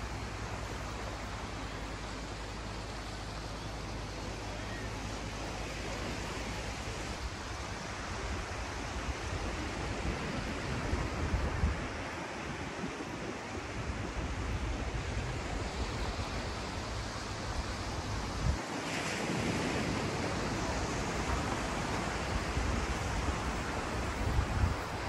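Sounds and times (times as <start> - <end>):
sea surf washing onto shore: 0.0 - 25.0
wind rumbling on microphone: 4.8 - 25.0.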